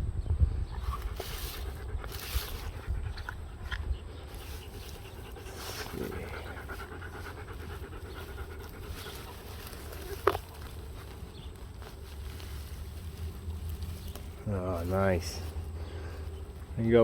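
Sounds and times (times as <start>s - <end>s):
dog panting: 0.8s - 17.0s.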